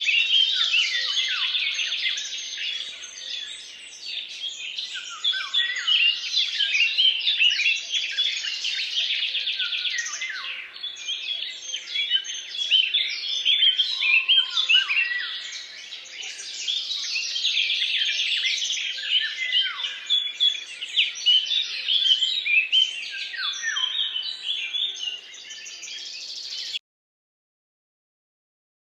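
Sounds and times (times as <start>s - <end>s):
songbirds chirping and singing: 0.0s - 26.8s.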